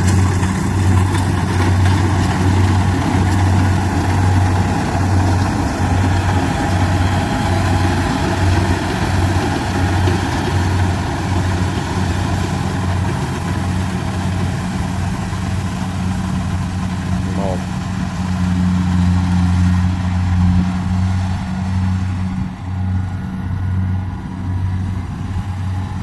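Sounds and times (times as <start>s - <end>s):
harvester diesel engine throbbing: 0.0s - 26.0s.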